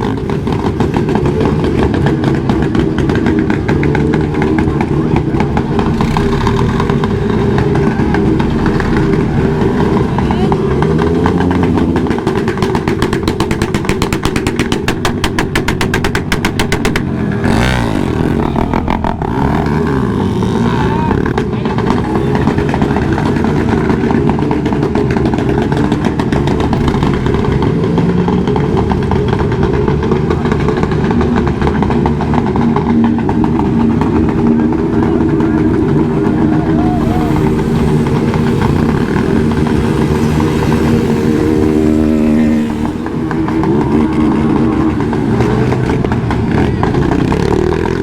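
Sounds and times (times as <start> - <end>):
motorcycle engines revving: 0.0 - 48.0.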